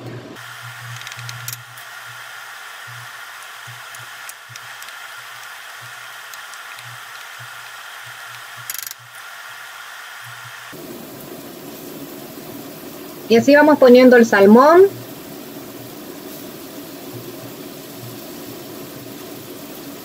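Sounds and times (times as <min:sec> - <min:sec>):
garlic sizzling in oil: 0:00.4 - 0:20.0.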